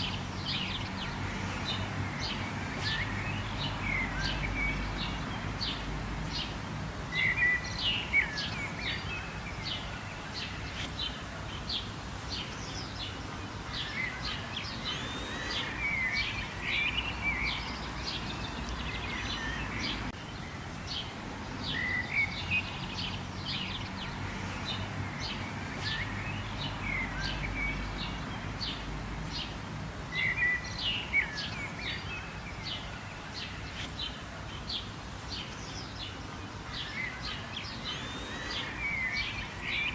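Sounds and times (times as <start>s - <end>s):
rain hissing: 0.0s - 39.9s
small birds chirping: 0.0s - 39.9s.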